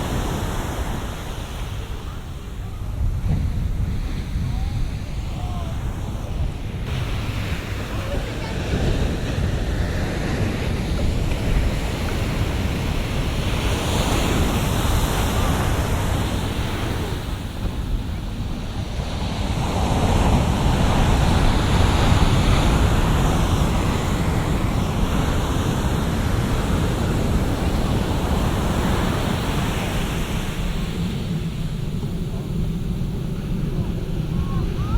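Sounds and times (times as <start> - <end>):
ocean surf breaking: 0.0 - 34.9
wind rumbling on microphone: 0.0 - 34.9.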